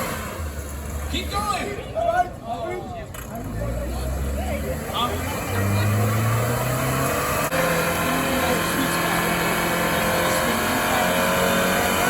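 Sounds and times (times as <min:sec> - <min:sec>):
car engine at high revs: 0:00.0 - 0:01.2, 0:03.4 - 0:12.0.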